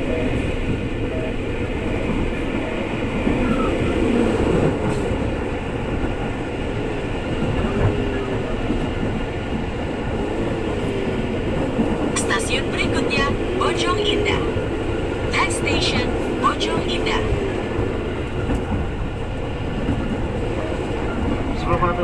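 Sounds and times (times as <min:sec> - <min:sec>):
train whines rising and falling: 0:00.0 - 0:22.0.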